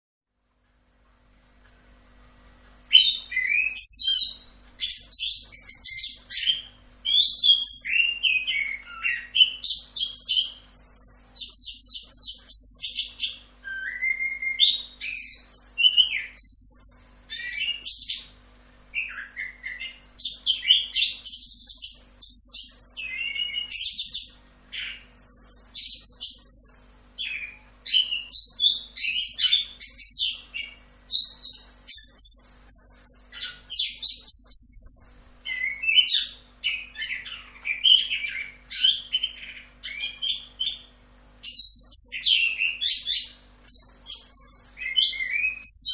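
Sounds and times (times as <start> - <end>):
faint steady hum: 0.3 - 45.9.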